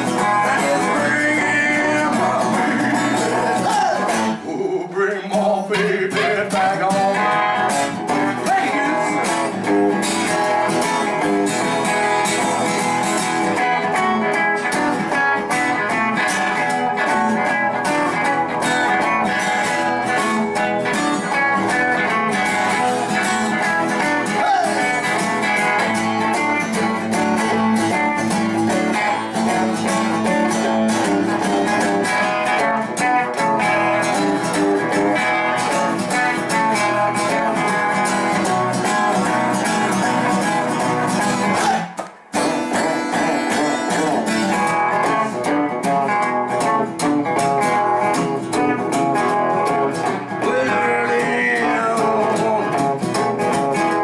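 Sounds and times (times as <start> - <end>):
electric guitar playing: 0.0 - 54.0
strummed acoustic guitar: 0.0 - 54.0.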